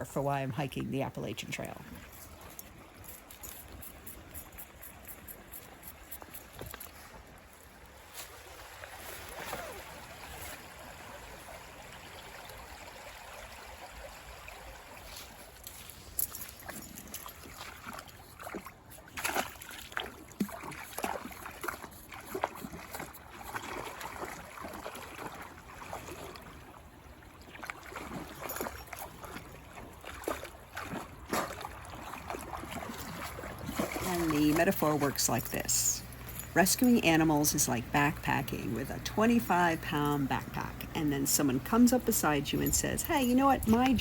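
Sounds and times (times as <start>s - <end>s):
brook water rushing: 3.9s - 42.4s.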